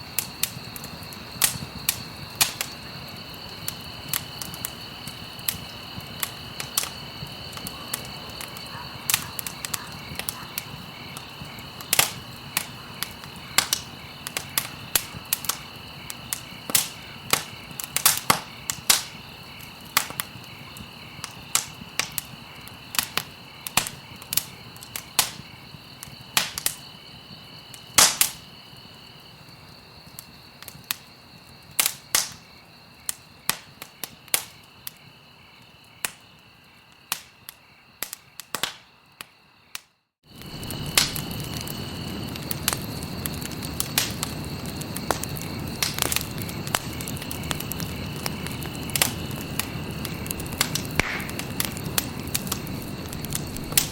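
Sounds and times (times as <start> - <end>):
low rushing of flames: 0.0 - 39.0, 40.2 - 53.9
wood fire crackling: 0.0 - 53.9.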